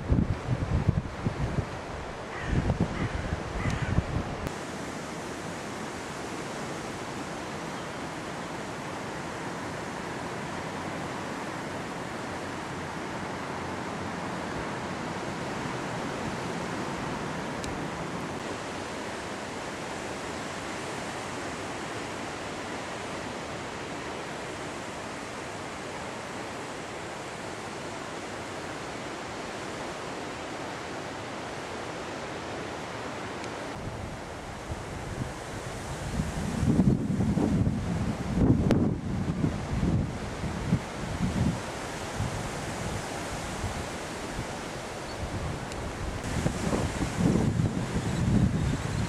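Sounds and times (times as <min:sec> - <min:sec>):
outdoor background hiss: 0:00.0 - 0:49.0
steady rushing noise: 0:00.0 - 0:49.0.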